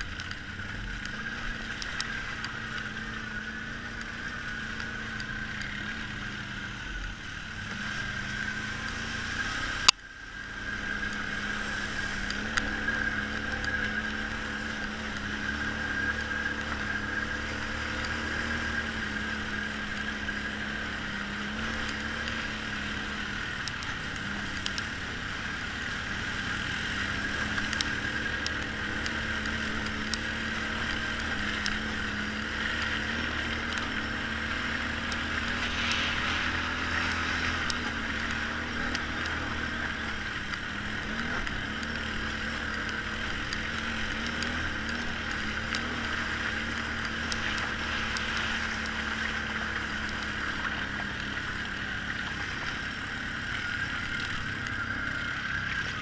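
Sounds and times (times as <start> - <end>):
atv engine running: 0.0 - 56.0
light ticks: 0.0 - 56.0.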